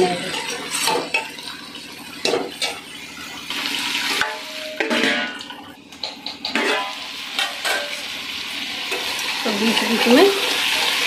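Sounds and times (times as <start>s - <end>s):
food frying in pot: 0.0s - 11.0s.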